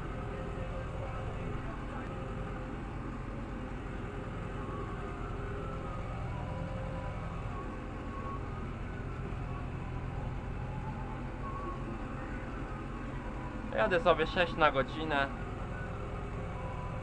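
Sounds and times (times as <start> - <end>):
faint steady whine: 0.0 - 17.0
tractor engine running: 0.0 - 17.0.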